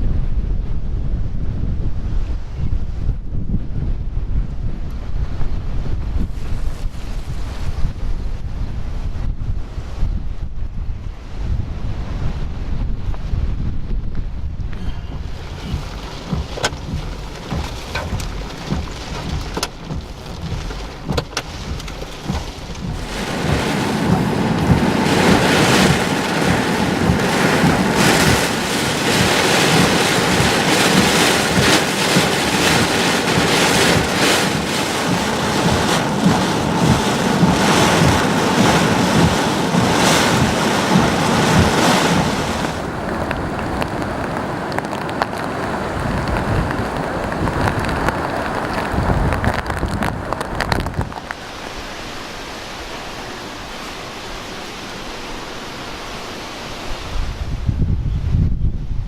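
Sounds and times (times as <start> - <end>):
wind buffeting microphone: 0.0 - 52.6, 56.5 - 59.0
heavy wind-driven rain: 0.0 - 59.0.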